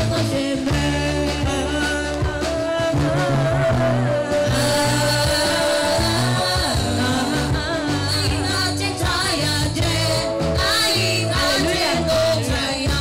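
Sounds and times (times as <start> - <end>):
instrumental accompaniment with bass: 0.0 - 13.0
woman singing gospel song: 0.0 - 13.0.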